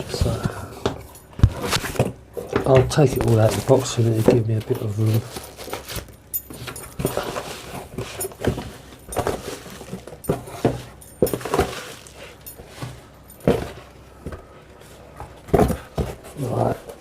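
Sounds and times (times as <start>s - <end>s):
items knocking and clunking: 0.0s - 17.0s.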